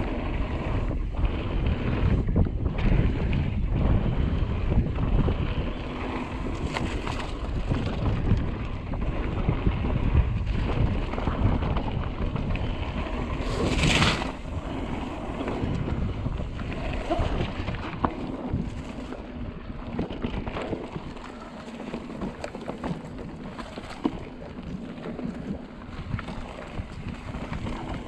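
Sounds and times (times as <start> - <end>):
bike rattles and clicks: 0.0 - 28.0
wind on microphone: 0.0 - 28.0.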